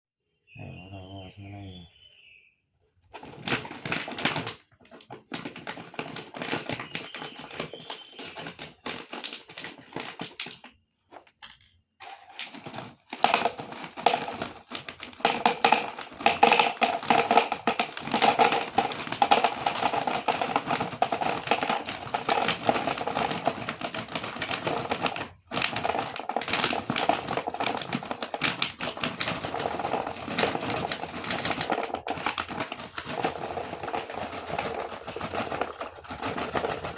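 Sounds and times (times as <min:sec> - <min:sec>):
snacks clattering into a jar: 0:05.3 - 0:10.7, 0:11.3 - 0:36.9.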